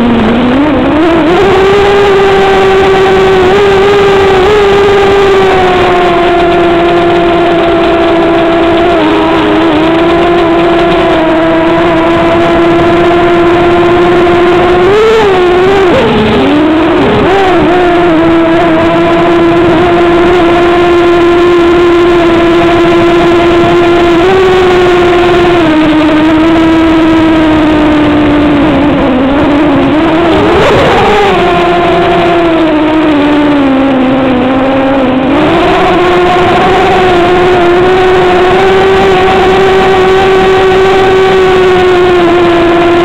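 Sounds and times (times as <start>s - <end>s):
drone motors whining: 0.0s - 43.0s.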